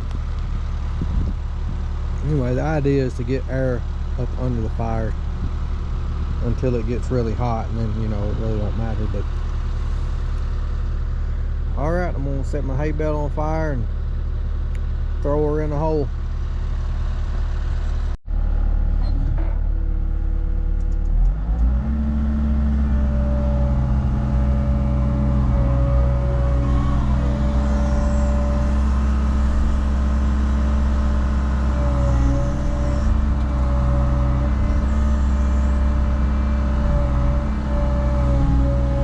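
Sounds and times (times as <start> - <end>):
excavator diesel engine running: 0.0 - 39.0
hydraulic whine: 0.0 - 39.0.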